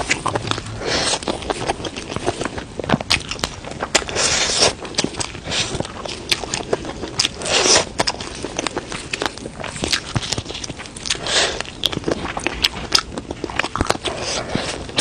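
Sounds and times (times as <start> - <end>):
person biting and chewing: 0.0 - 15.0.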